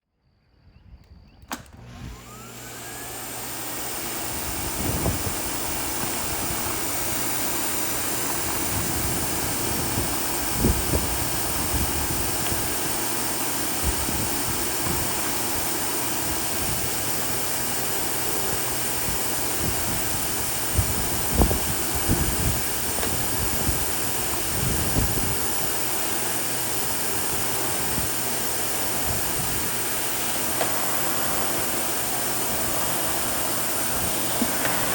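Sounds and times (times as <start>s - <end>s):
vacuum cleaner running: 1.4s - 34.9s.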